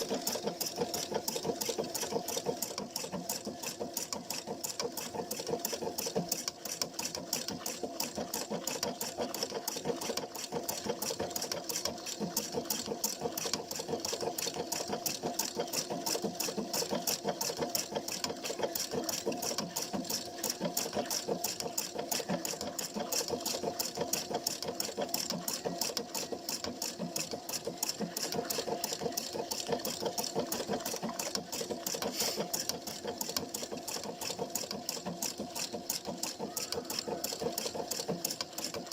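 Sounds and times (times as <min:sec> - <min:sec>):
sewing machine stitching: 0:00.0 - 0:38.9.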